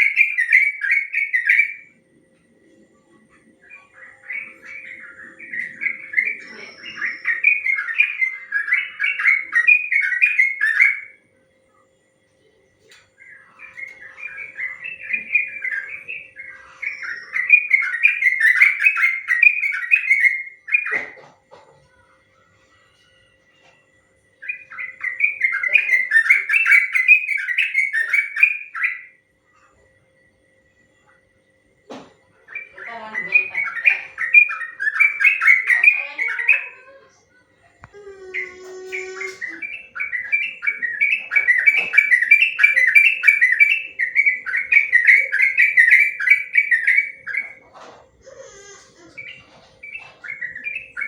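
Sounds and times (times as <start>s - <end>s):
bird singing chattering notes: 0.0s - 11.2s, 11.8s - 22.0s, 23.0s - 51.0s.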